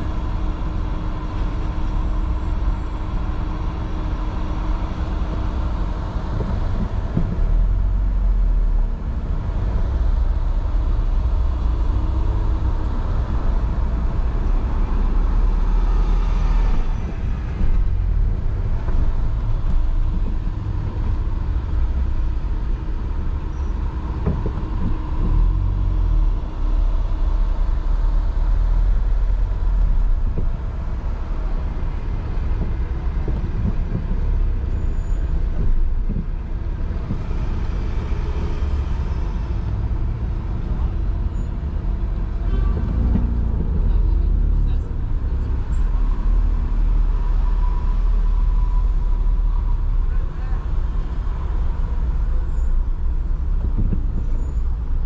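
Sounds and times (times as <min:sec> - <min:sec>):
traffic rumble: 0:00.0 - 0:55.0.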